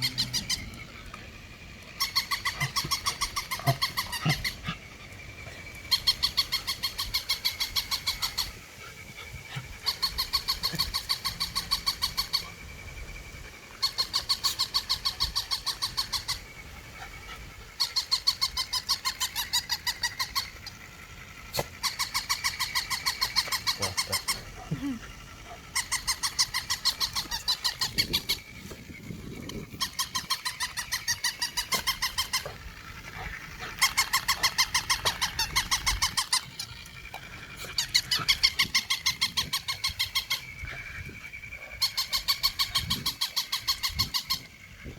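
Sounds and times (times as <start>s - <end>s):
toy dog yapping: 0.0s - 8.6s, 9.2s - 12.5s, 13.8s - 44.7s.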